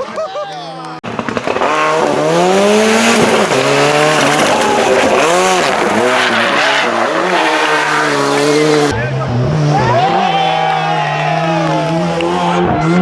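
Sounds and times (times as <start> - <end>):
rally car engine revving: 0.9 - 13.0.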